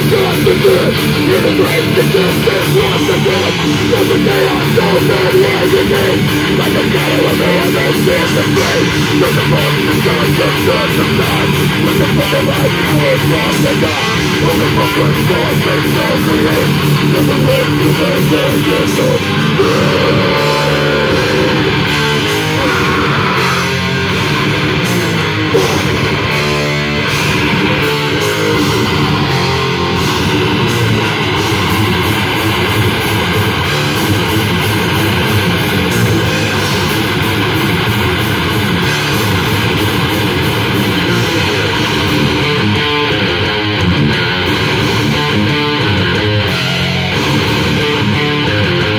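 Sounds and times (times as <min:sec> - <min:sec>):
heavy metal band playing: 0:00.0 - 0:48.9.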